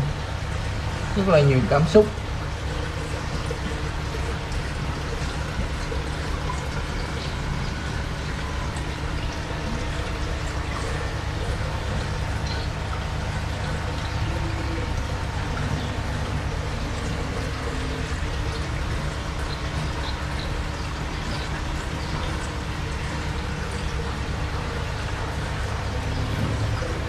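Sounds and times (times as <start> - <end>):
aquarium filter water trickling: 0.0 - 27.0
low even hum: 0.0 - 27.0.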